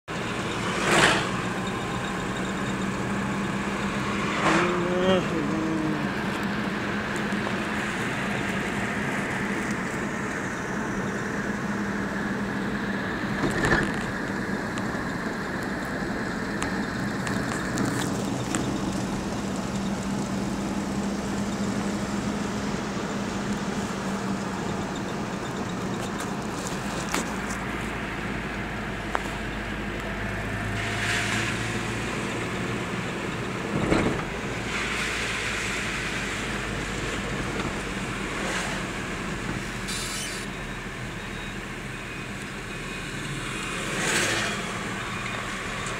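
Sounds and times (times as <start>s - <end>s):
engine hum and road noise: 0.0s - 45.9s.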